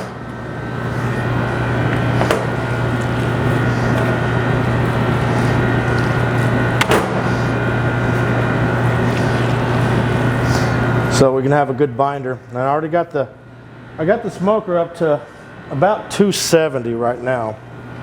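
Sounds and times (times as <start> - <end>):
machine drone with low hum: 0.0 - 18.0.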